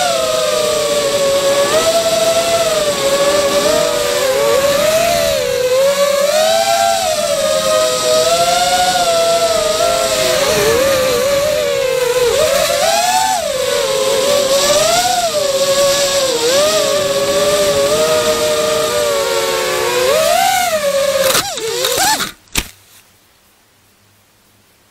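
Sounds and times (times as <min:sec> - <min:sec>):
quadcopter propellers whining: 0:00.0 - 0:22.4
quadcopter hitting bushes: 0:00.0 - 0:22.8.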